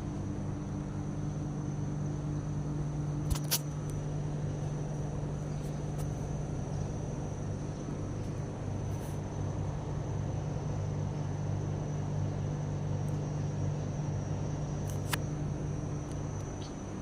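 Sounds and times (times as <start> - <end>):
ceiling fan running: 0.0 - 17.0.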